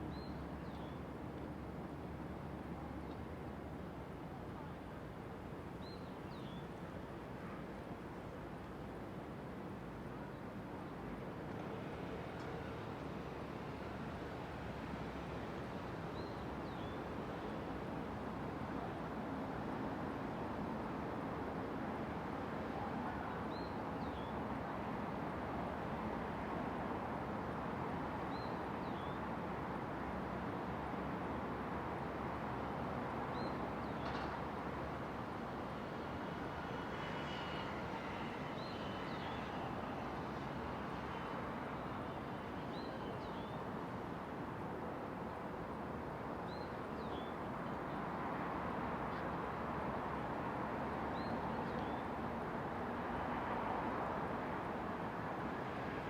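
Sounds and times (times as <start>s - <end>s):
distant city traffic hum: 0.0s - 56.0s.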